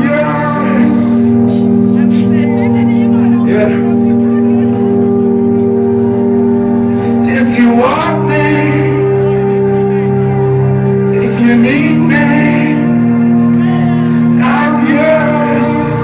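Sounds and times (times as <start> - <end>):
trance music with synth chords: 0.0 - 16.0.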